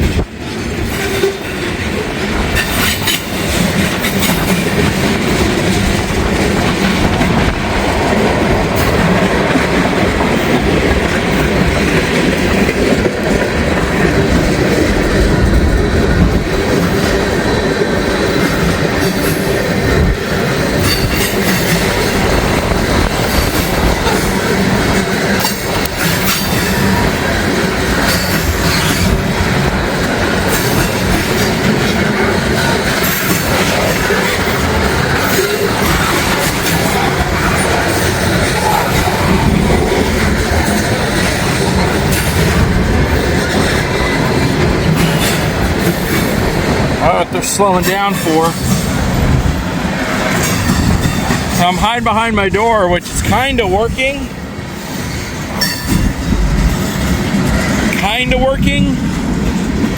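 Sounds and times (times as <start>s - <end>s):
wind buffeting microphone: 0.0s - 47.7s, 48.4s - 51.6s, 52.3s - 59.9s
wheels clicking over rail joints: 0.0s - 58.4s
freight train rolling past: 0.0s - 59.9s.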